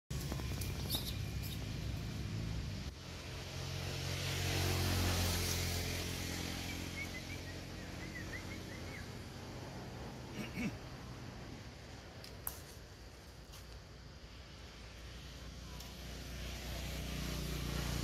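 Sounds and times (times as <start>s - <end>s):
vehicle engine passing: 0.1s - 12.2s, 14.2s - 18.0s.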